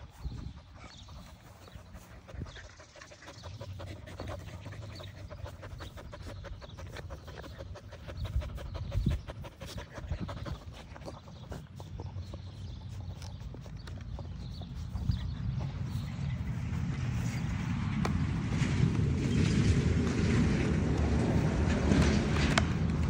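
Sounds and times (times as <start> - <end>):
dogs panting: 0.0 - 23.0.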